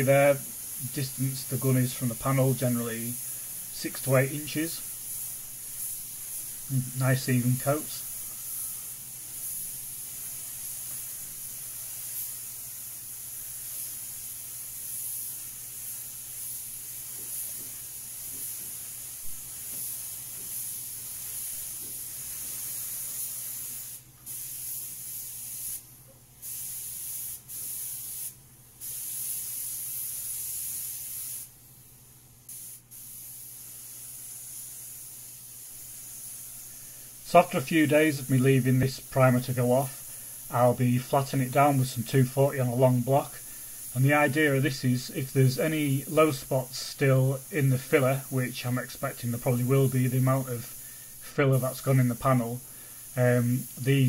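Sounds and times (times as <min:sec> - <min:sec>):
paint spray gun hissing: 0:00.0 - 0:54.0.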